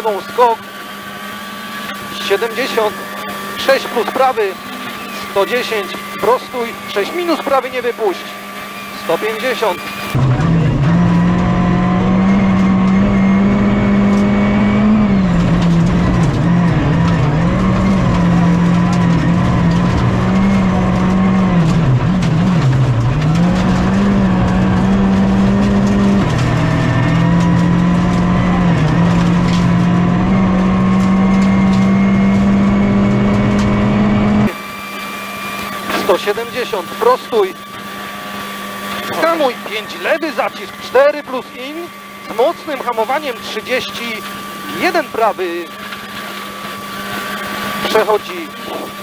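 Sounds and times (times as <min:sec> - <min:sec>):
rally car engine at high revs: 0:00.0 - 0:49.0.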